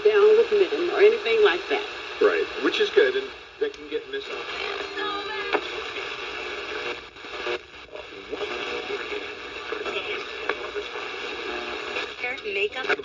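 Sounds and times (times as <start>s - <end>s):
radio static hiss: 0.0s - 13.0s
snatches of broadcast audio: 0.0s - 13.0s.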